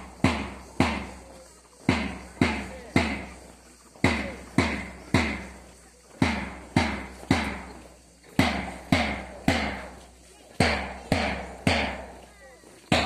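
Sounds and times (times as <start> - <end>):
drum beating: 0.0 - 10.0, 10.6 - 12.3.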